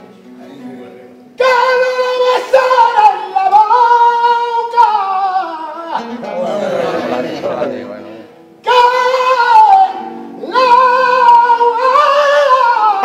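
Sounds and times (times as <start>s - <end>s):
man singing unaccompanied: 1.2s - 13.0s.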